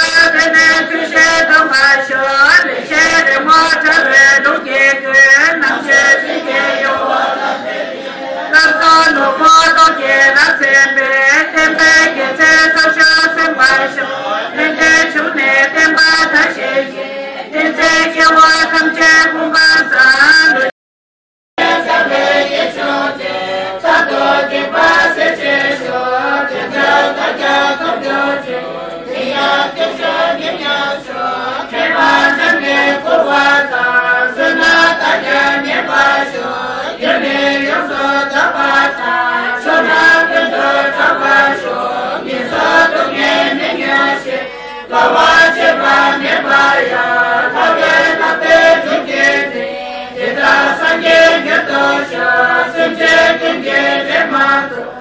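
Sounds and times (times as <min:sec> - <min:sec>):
group chanting prayers: 0:00.0 - 0:20.7, 0:21.6 - 0:55.0.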